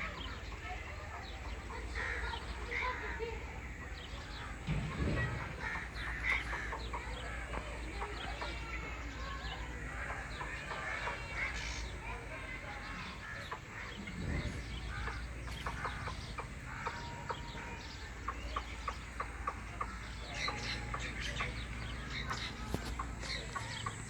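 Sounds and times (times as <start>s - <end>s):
bird clucking calls: 0.0s - 24.0s
outdoor background noise: 0.0s - 24.0s.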